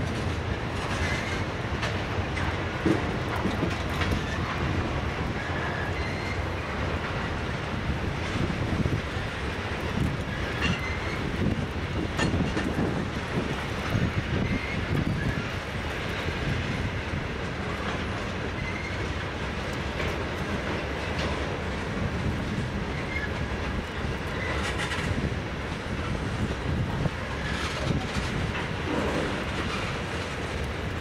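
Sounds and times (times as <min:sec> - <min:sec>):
steel wheels rumbling on rail: 0:00.0 - 0:31.0
wheels clacking over track: 0:00.0 - 0:31.0.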